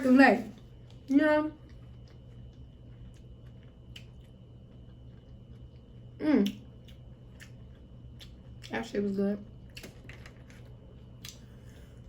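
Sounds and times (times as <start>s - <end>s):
faint steady hum: 0.0s - 12.0s
faint chewing: 0.5s - 8.8s, 9.7s - 12.0s.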